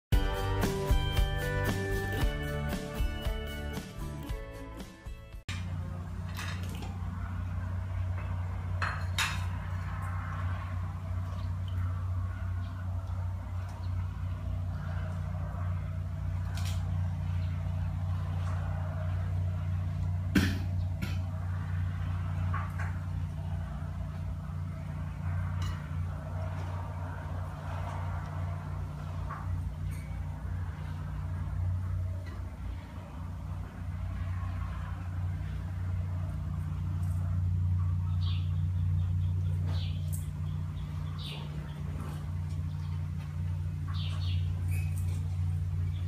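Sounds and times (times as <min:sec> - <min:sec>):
low mechanical hum: 0:05.5 - 0:46.0.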